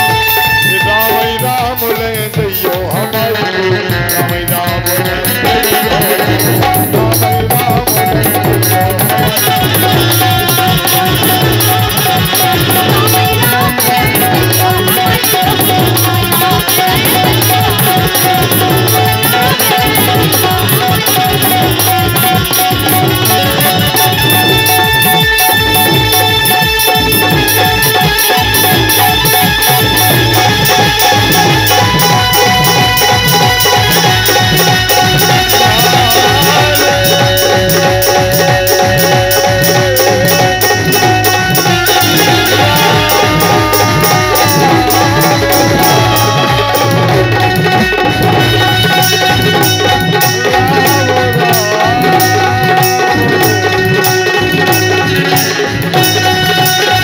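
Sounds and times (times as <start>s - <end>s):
fast hand drum beat: 0.0s - 57.0s
gliding held melody notes: 5.4s - 57.0s.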